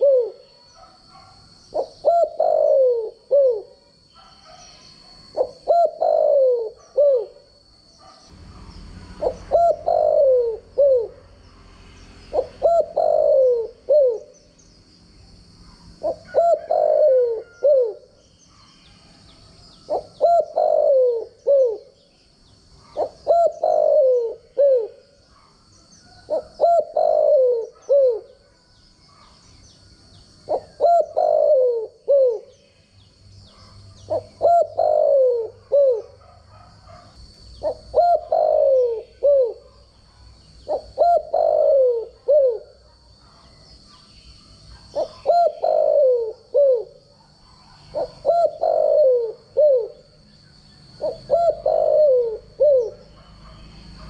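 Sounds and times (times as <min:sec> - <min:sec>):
dove cooing: 0:00.0 - 0:11.4, 0:12.3 - 0:14.5, 0:15.6 - 0:22.1, 0:22.7 - 0:29.4, 0:30.3 - 0:32.6, 0:33.4 - 0:54.0.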